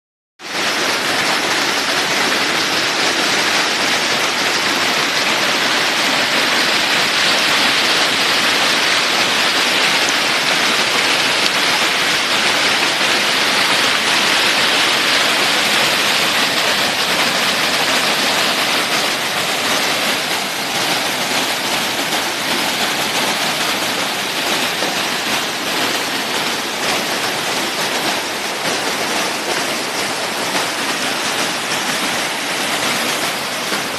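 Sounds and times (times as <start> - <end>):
rushing water: 0.4 - 33.9.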